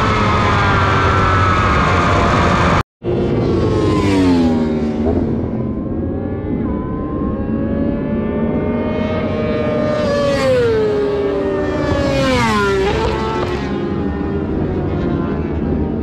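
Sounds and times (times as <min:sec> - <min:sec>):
motorcycle engine revving past: 0:00.0 - 0:16.0.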